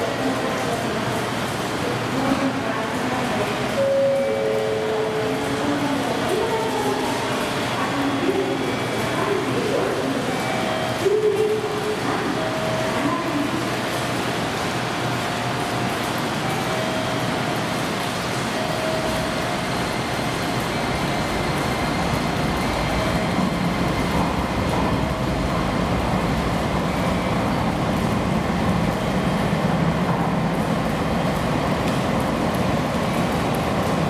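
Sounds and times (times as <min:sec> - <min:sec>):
railcar engine low drone: 0:00.0 - 0:34.0.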